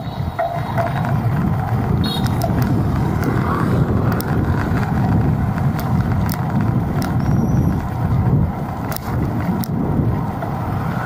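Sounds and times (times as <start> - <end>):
passing vehicles rumbling: 0.0 - 11.0.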